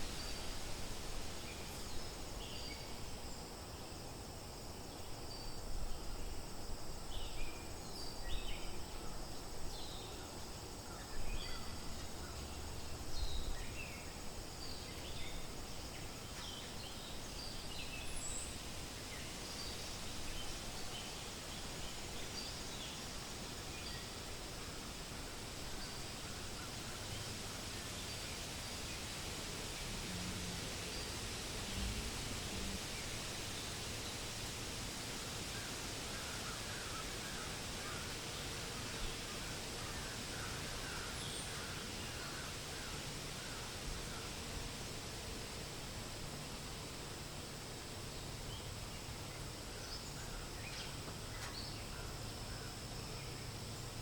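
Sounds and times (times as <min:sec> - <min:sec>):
wind rustling leaves: 0:00.0 - 0:54.0.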